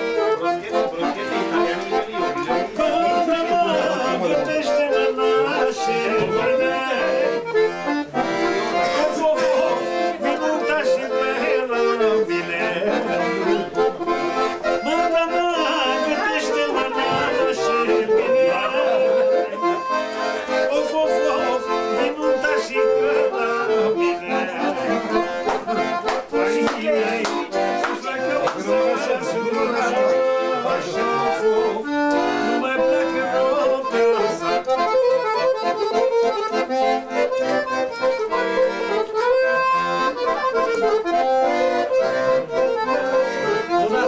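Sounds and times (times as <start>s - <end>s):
accordion playing traditional tune: 0.0s - 44.0s.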